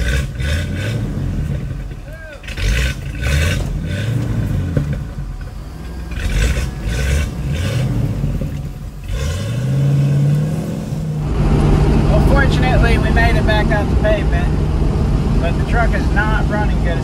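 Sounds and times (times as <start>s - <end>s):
rattle from rough track: 0.0s - 17.0s
vehicle engine revving: 0.0s - 17.0s.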